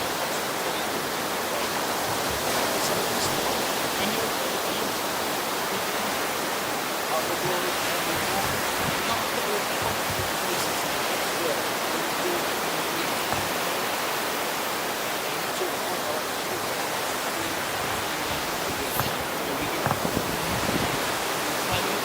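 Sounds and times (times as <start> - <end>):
sea surf washing onto beach: 0.0 - 22.0.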